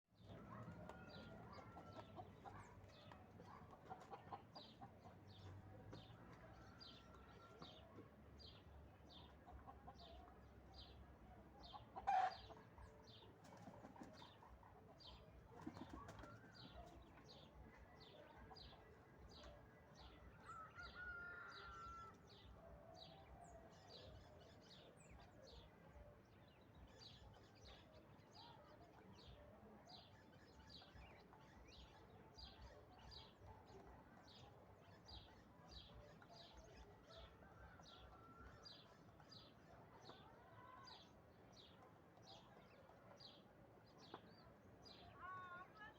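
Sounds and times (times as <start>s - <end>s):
faint poultry calls: 0.2s - 10.9s, 11.6s - 17.5s, 18.1s - 26.2s, 26.8s - 43.2s.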